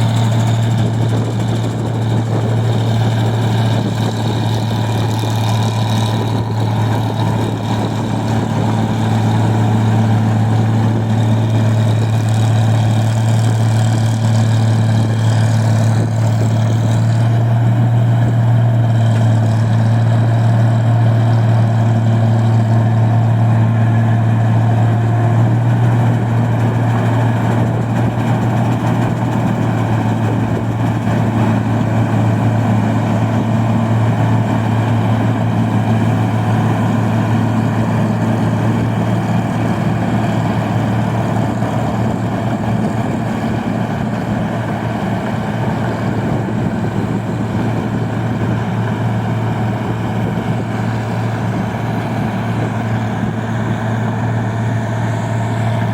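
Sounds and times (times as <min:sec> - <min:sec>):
milling machine engine humming: 0:00.0 - 0:55.9.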